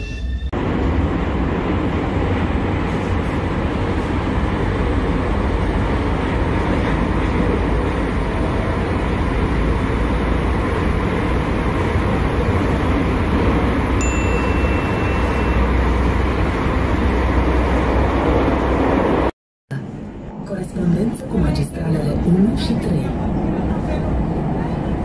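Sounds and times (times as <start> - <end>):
metro train rumbling inside carriage: 0.0 - 25.0.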